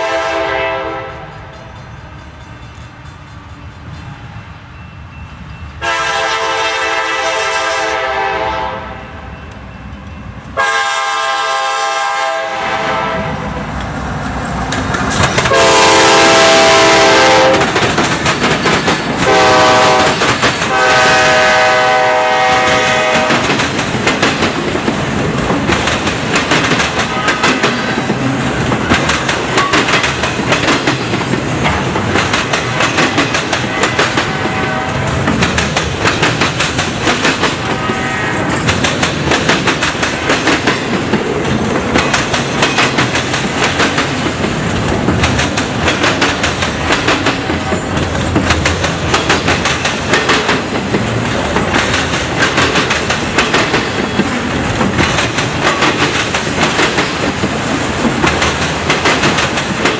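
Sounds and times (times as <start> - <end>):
train wheels clacking on rails: 0.0 - 7.4, 9.3 - 59.9.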